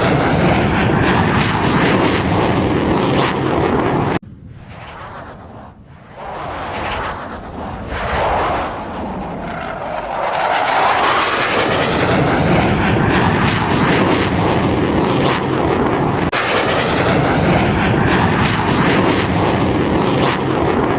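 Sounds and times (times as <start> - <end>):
loud aircraft engines: 0.0 - 20.9.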